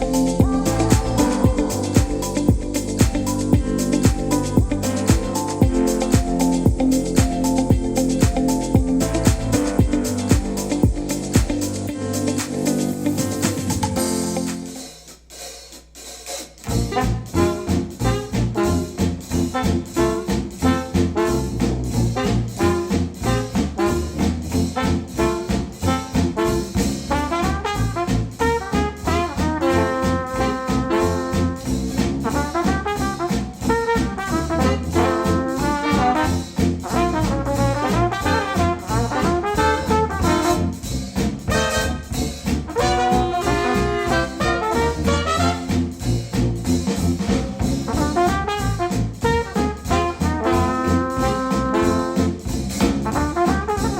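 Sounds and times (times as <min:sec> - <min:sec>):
brass instrumental with drums: 0:00.0 - 0:53.9.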